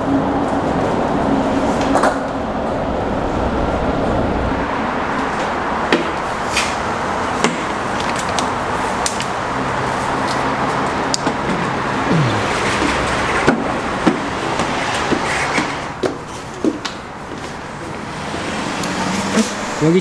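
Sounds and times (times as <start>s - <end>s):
traffic rumble in underpass: 0.0s - 20.0s.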